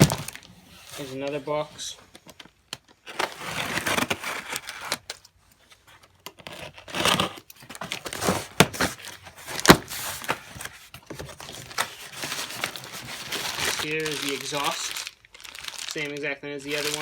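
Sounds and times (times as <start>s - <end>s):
cardboard and packing crinkling: 0.0s - 17.0s.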